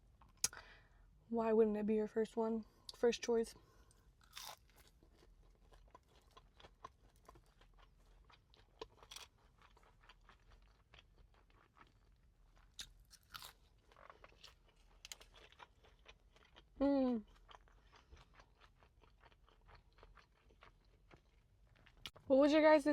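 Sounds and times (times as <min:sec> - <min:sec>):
chewing and crunching food: 0:02.6 - 0:22.3.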